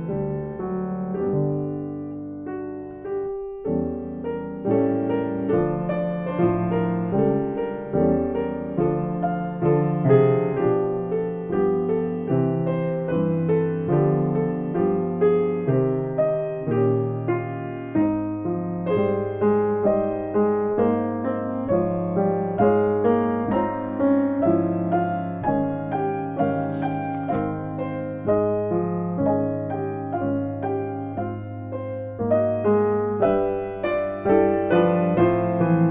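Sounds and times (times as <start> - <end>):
gentle solo piano: 0.0 - 35.9.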